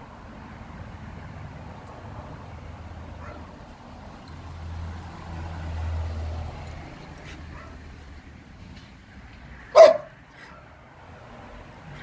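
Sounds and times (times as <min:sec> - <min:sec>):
passing vehicle engine rumble: 0:00.0 - 0:12.0.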